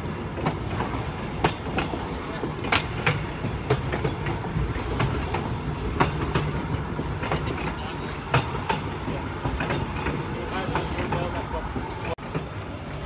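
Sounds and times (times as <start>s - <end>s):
train rumbling on track: 0.0s - 13.0s
wheels clicking over rail joints: 0.0s - 13.0s.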